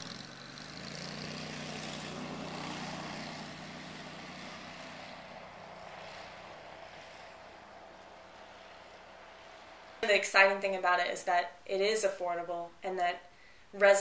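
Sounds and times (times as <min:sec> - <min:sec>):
engine humming: 0:00.0 - 0:13.1.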